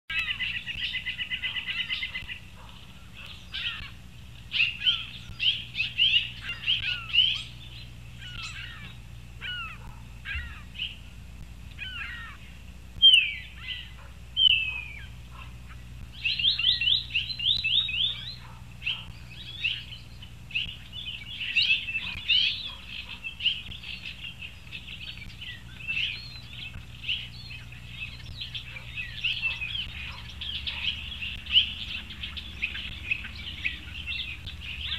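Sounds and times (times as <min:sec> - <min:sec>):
faint low hum: 0:00.1 - 0:34.9
songbirds chirping: 0:00.1 - 0:34.9.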